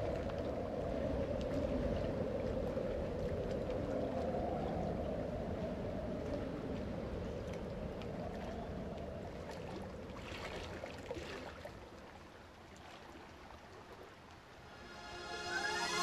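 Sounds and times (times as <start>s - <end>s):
choppy water splashing: 0.0s - 14.0s.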